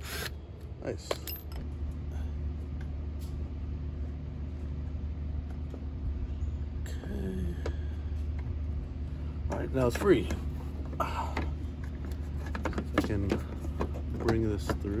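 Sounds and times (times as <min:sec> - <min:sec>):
steady low rumble: 0:00.3 - 0:15.0.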